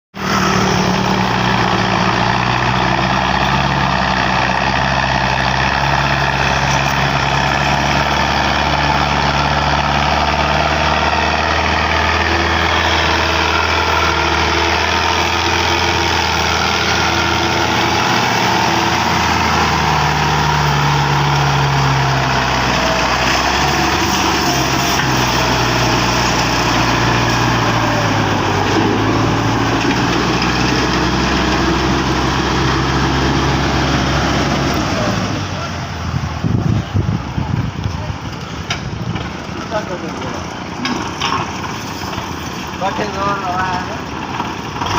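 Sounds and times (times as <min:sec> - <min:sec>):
tractor diesel engine running: 0:00.1 - 0:44.9.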